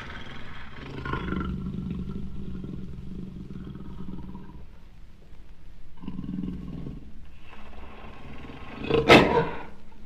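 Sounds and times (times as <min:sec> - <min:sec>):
jaguar growling: 0:00.0 - 0:04.8, 0:06.0 - 0:09.8.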